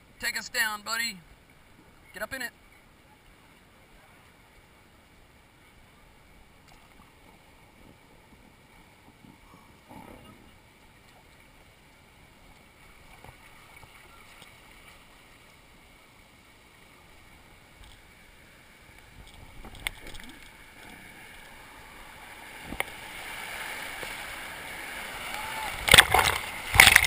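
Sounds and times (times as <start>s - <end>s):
water rushing and lapping: 0.0s - 27.0s.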